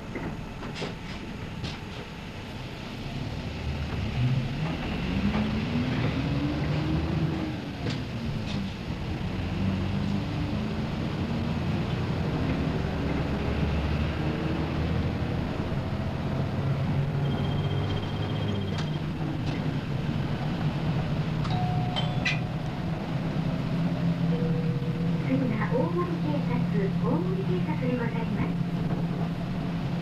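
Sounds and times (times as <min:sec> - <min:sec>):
bus engine accelerating: 0:00.0 - 0:30.0
road and body rumble: 0:00.0 - 0:30.0.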